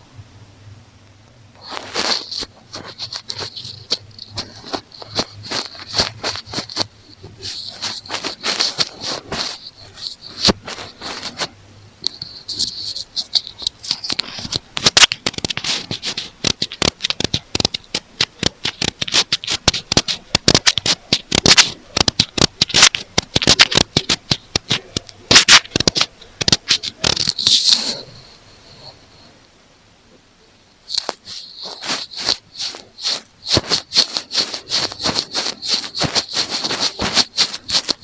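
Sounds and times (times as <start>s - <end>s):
earphone microphone scratched and tapped: 1.6s - 29.3s, 30.9s - 38.0s.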